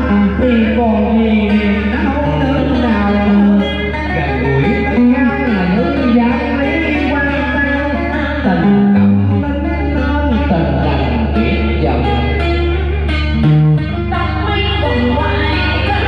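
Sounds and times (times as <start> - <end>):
plucked guitar notes bending: 0.0 - 16.0.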